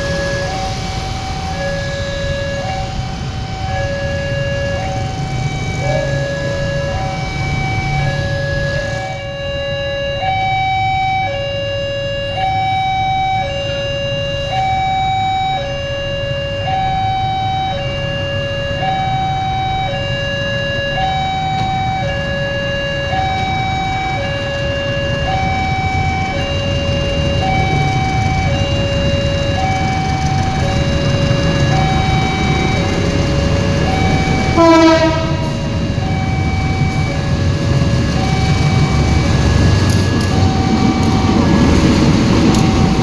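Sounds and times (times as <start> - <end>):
level-crossing two-tone alarm: 0.0 - 43.0.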